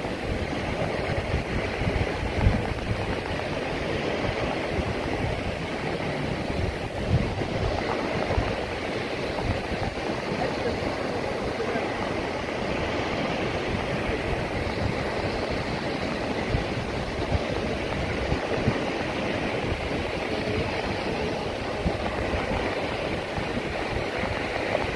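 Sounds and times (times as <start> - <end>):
small waves breaking on beach: 0.0 - 24.9.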